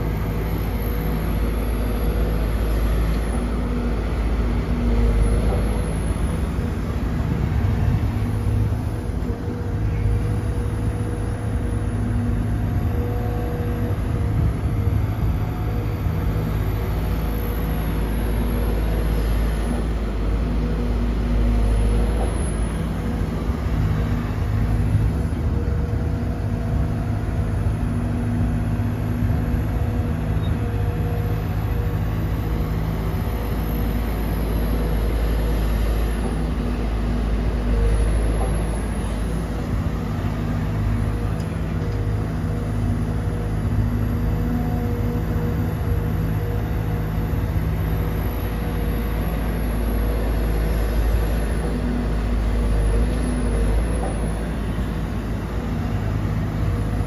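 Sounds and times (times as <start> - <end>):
excavator diesel engine running: 0.0 - 57.0
hydraulic whine: 0.0 - 57.0.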